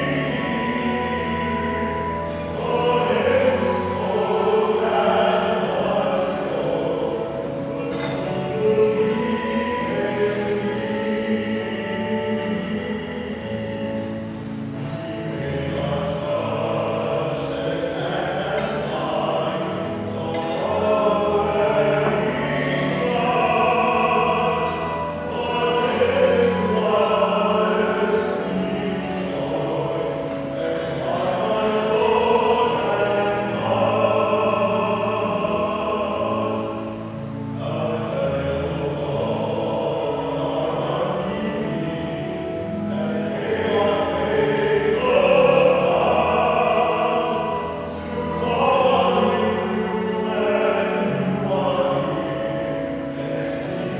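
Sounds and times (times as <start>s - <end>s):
voices singing a hymn: 0.0s - 53.9s.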